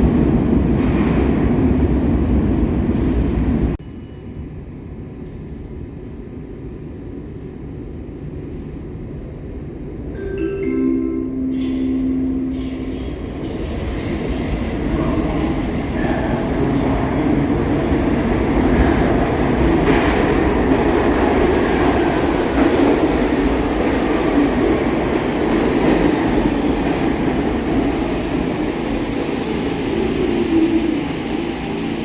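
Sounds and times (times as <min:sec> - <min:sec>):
subway train running on track: 0:00.0 - 0:32.0.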